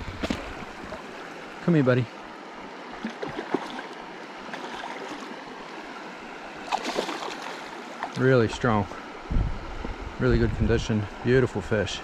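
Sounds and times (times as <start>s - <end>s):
stream running over stones: 0.0s - 12.0s
water splashes: 0.0s - 12.0s.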